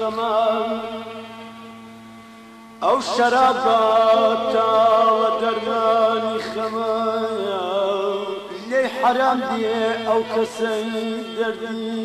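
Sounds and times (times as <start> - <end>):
man singing long wavering note: 0.0 - 1.7, 2.8 - 12.0
drone accompaniment: 0.0 - 12.0.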